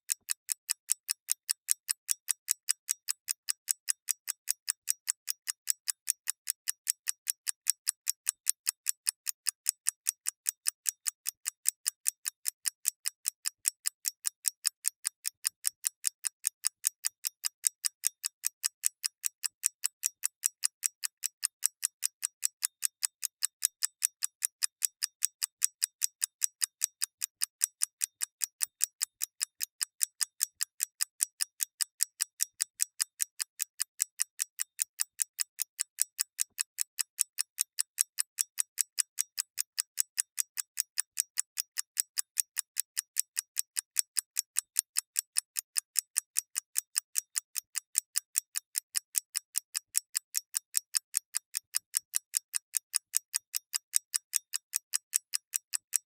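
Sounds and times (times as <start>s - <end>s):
mechanical clock ticking: 0.1s - 56.0s.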